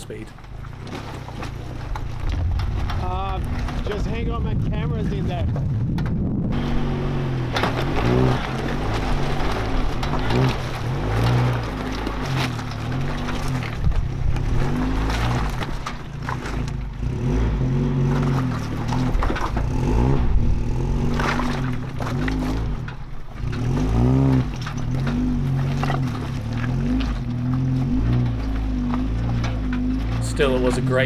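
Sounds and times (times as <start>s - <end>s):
vehicle engine revving: 0.0s - 31.0s.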